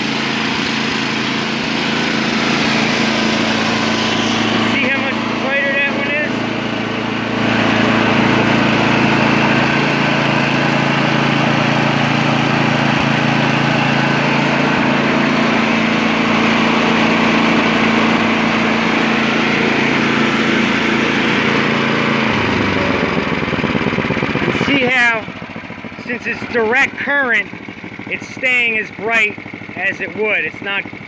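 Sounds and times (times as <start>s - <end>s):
snowblower engine running: 0.0s - 31.0s.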